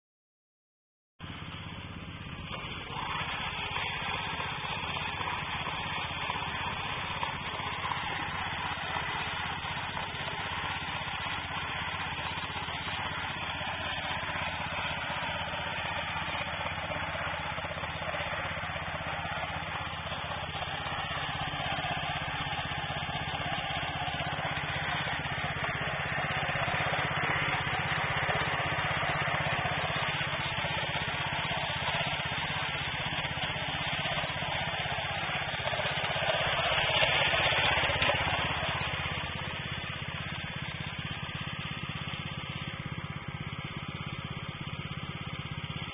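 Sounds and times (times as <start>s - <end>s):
small gasoline engine running: 1.2s - 45.9s.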